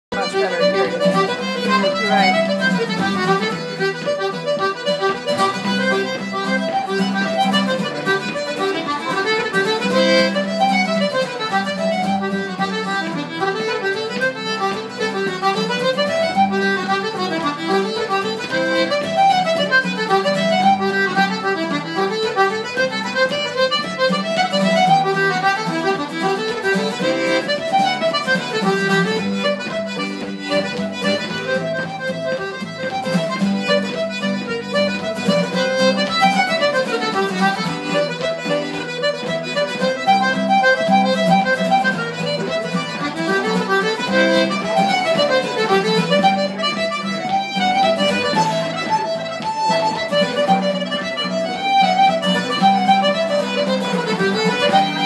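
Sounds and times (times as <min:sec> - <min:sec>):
accordion dance tune: 0:00.1 - 0:55.0
strummed acoustic guitar: 0:00.1 - 0:55.0.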